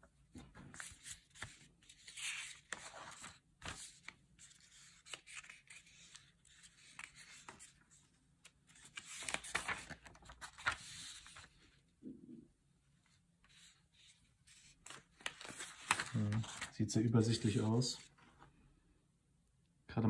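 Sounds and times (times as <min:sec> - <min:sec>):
paper rustling and crinkling: 0:00.3 - 0:11.9, 0:13.4 - 0:18.5.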